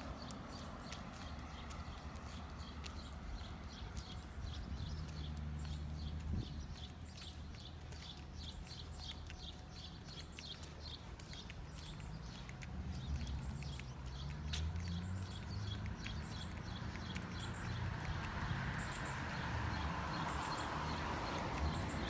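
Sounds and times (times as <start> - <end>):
footsteps clicking: 0.0 - 22.0.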